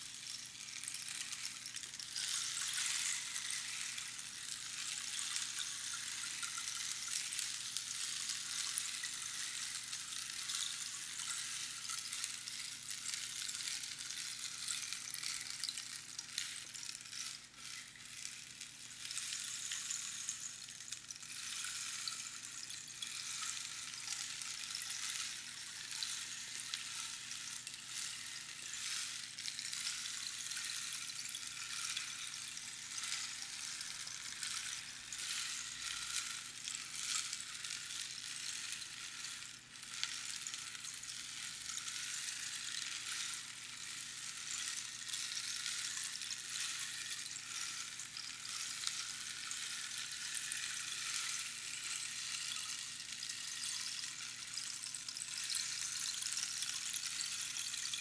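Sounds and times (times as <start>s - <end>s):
rainstick patter: 0.0s - 58.0s.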